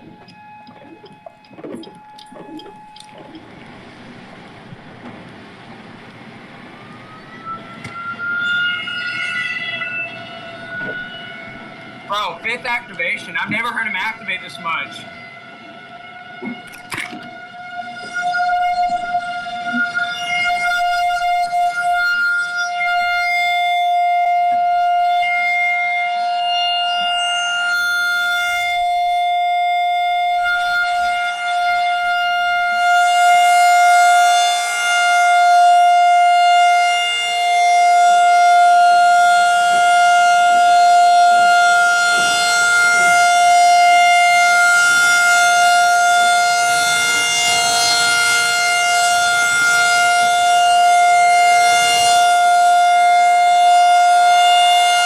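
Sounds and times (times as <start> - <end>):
tornado warning siren: 0.0 - 55.0.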